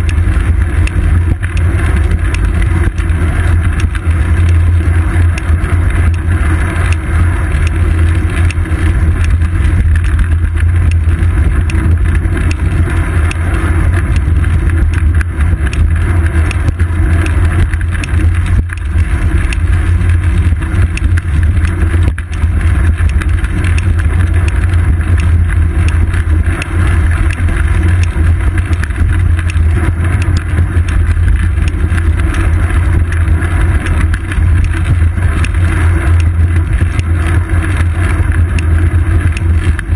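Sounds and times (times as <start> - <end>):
road vibration rumble: 0.0 - 39.9
wind rumble: 0.0 - 39.9.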